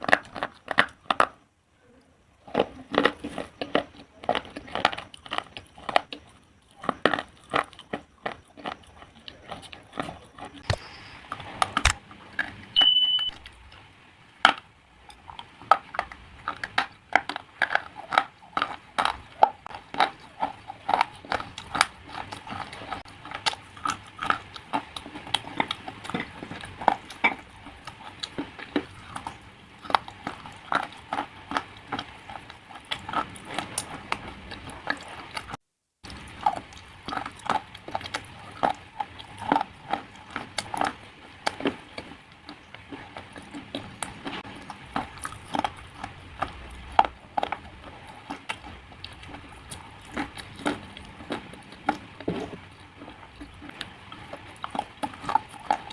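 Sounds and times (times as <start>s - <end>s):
slate being chewed: 0.0s - 1.4s, 2.4s - 13.8s, 14.4s - 55.9s.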